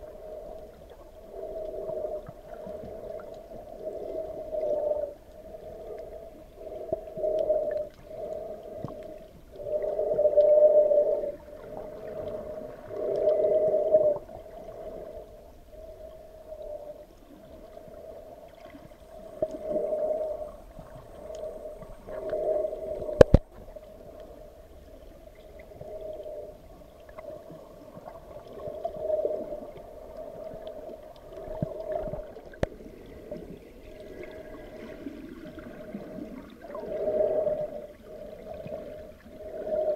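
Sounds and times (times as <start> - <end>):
gurgling underwater noise: 0.0 - 39.9.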